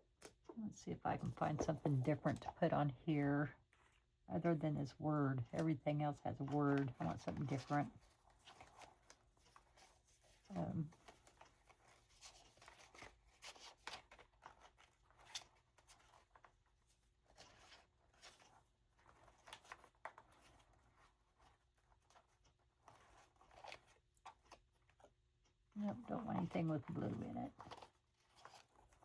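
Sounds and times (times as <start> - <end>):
paper rustling and ticking: 5.4 - 29.0.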